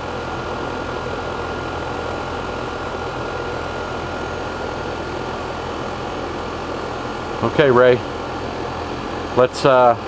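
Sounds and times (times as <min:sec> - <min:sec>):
compressor humming: 0:00.0 - 0:10.0
condenser fan whoosh: 0:00.0 - 0:10.0
thin steady whine: 0:00.0 - 0:10.0.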